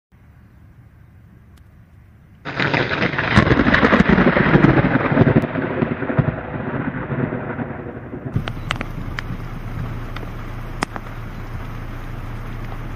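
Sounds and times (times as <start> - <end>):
thunder clap and rumble: 2.5 - 12.9.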